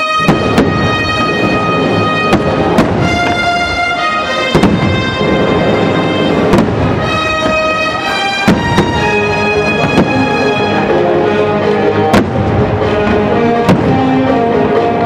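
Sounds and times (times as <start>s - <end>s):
fireworks bangs: 0.0s - 15.0s
loud show music: 0.0s - 15.0s.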